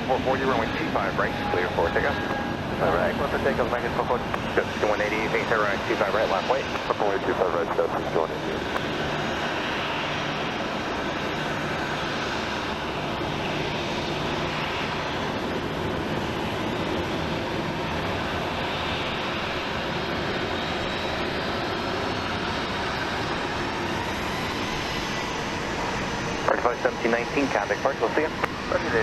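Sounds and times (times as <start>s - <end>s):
jet engines at takeoff: 0.0s - 29.0s.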